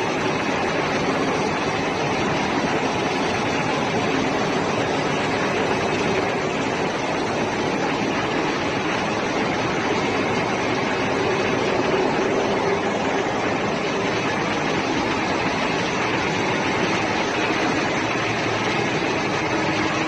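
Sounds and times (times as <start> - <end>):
engine room machinery running: 0.0 - 20.0.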